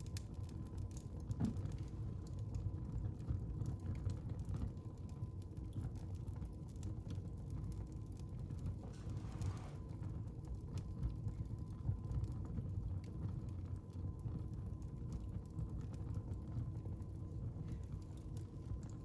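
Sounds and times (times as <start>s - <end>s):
fire crackling and popping: 0.0s - 19.0s
fire flames rumbling: 0.0s - 19.0s.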